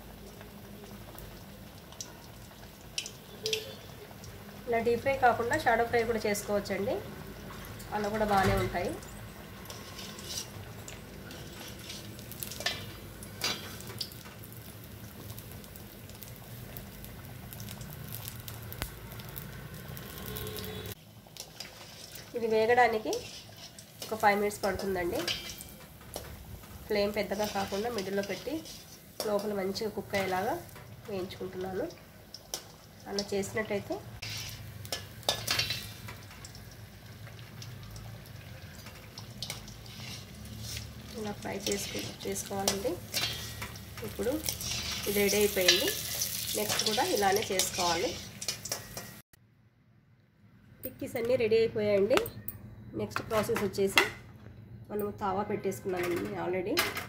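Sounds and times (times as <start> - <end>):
oil crackles and clicks: 0.0 - 5.6, 8.9 - 49.3
patty deep-frying in hot oil: 0.0 - 49.4.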